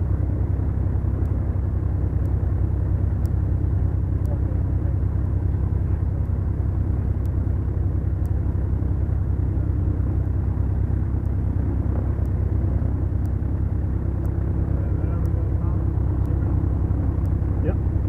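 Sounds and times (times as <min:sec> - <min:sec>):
aircraft engines droning: 0:00.0 - 0:18.0
faint ticks: 0:01.2 - 0:05.4, 0:06.1 - 0:09.6, 0:10.9 - 0:18.0.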